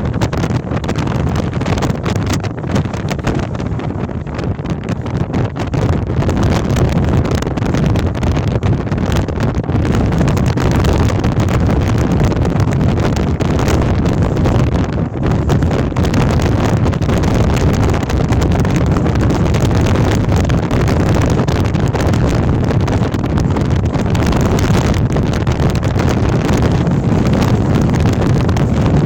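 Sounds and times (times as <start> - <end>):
gale wind buffeting microphone: 0.0 - 29.0.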